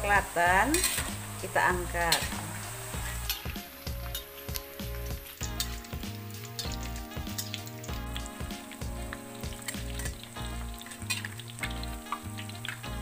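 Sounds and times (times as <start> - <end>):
background music with bass: 0.0 - 13.0
food sizzling in hot oil: 0.0 - 13.0
metal utensils scraping a wok: 0.6 - 12.9.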